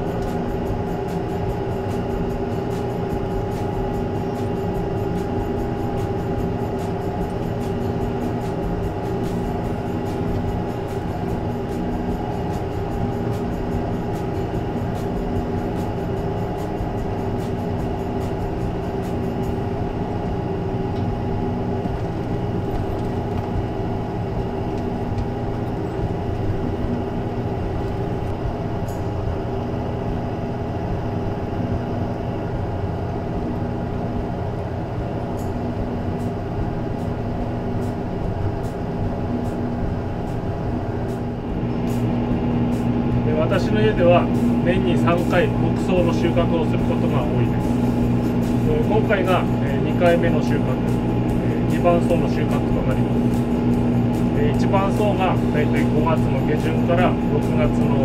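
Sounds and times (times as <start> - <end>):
tractor and baler droning: 0.0 - 58.0.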